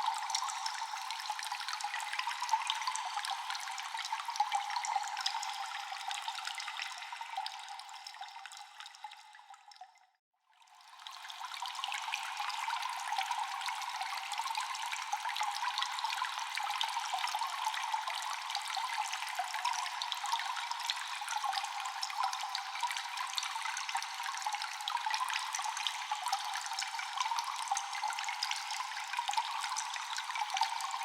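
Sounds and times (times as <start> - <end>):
water drops dripping with echo: 0.0 - 10.2, 11.1 - 31.0.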